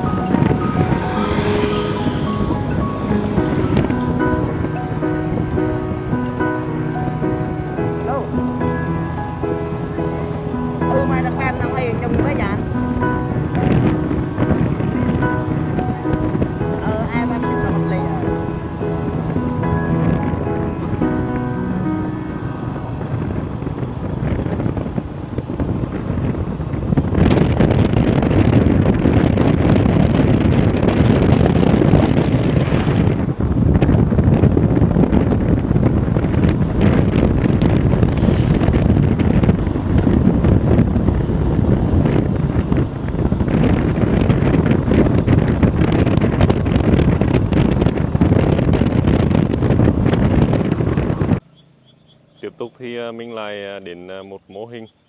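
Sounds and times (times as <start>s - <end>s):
motorbike running: 0.0s - 53.3s
wind buffeting microphone: 0.0s - 55.0s.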